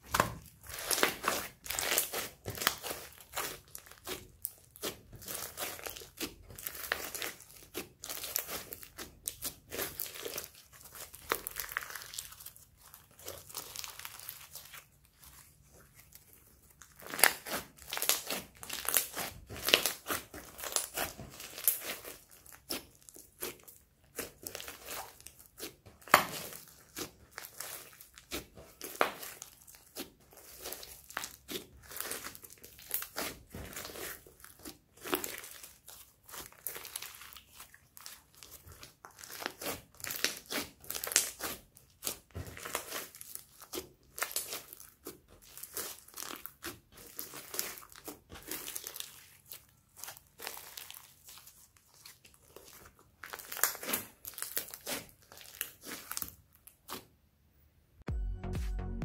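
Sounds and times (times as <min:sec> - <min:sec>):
slime crackling and popping: 0:00.0 - 0:57.2.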